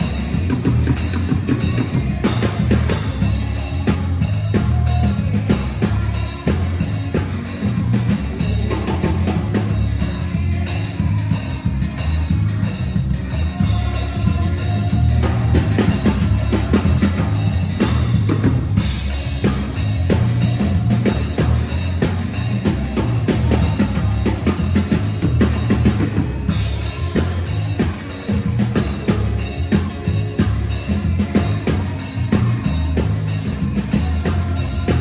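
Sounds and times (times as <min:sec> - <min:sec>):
drum kit: 0:00.0 - 0:35.0
heavy bass line: 0:00.0 - 0:35.0
held organ chords: 0:00.0 - 0:35.0.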